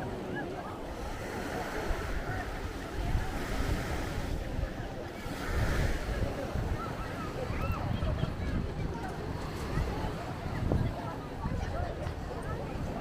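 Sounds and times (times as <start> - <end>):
sea waves washing on beach: 0.0 - 13.0
wind gusting on microphone: 0.8 - 13.0.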